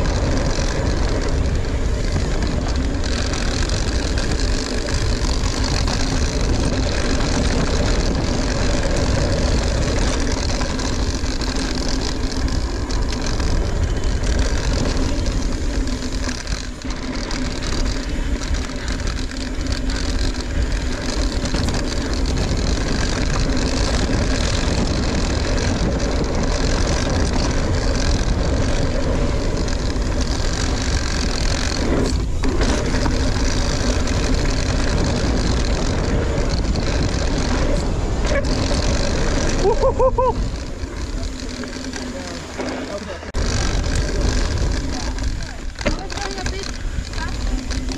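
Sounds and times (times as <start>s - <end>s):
bike tyres on dirt trail: 0.0s - 47.9s.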